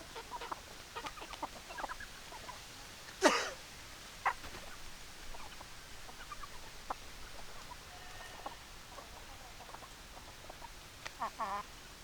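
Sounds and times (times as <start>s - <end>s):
chickens clucking: 0.0s - 3.2s, 4.2s - 11.8s.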